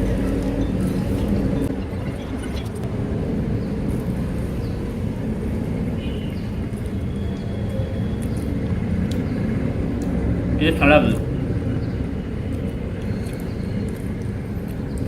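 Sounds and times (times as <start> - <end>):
engine low rumble: 0.0 - 15.0.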